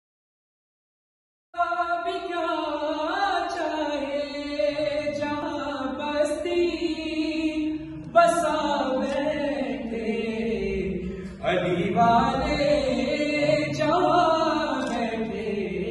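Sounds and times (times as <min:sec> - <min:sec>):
man chanting a lament: 0:01.6 - 0:15.9.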